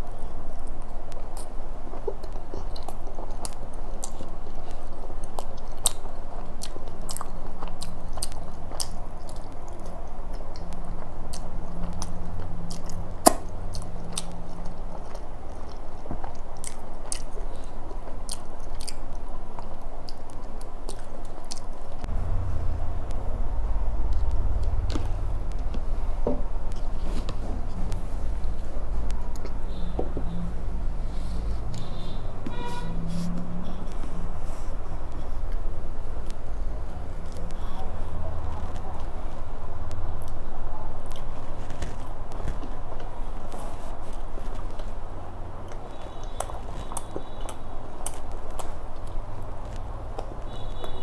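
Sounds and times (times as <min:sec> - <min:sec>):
person chewing with wet smacking: 0:00.0 - 0:22.2, 0:24.0 - 0:32.5, 0:33.1 - 0:51.0.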